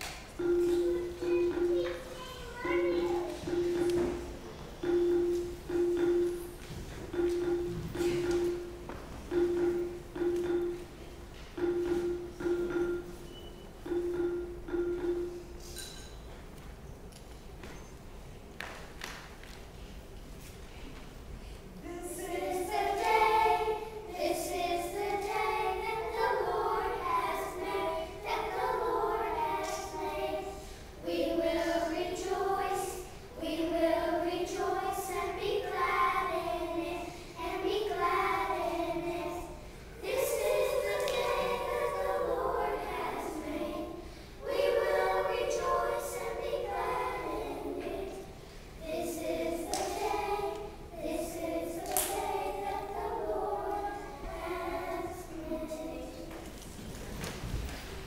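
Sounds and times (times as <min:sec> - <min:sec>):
young children singing: 0:00.0 - 0:11.0, 0:11.6 - 0:15.5, 0:21.8 - 0:56.7.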